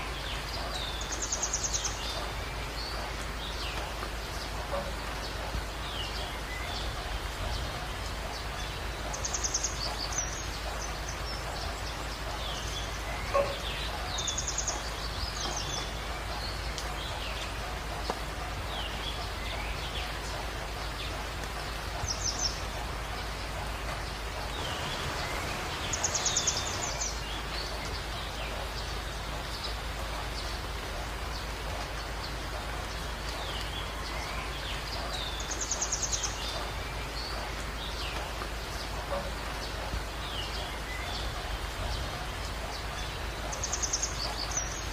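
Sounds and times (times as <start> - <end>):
songbirds singing: 0.0 - 44.9
steady rain: 0.0 - 44.9.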